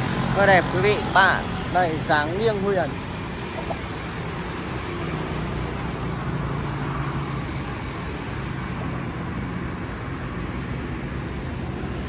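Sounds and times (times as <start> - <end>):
vehicle engines running: 0.0 - 12.0
vehicles passing close by: 0.0 - 12.0.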